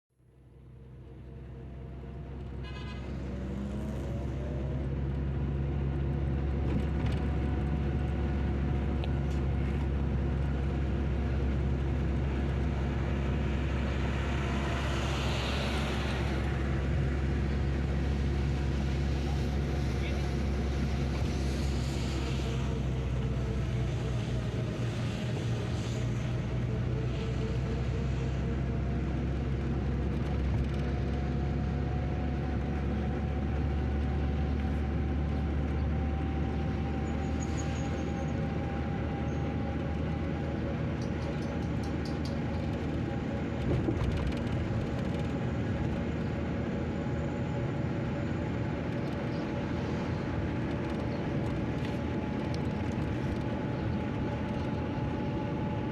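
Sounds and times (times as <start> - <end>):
vehicle engine rumbling: 0.2 - 55.9.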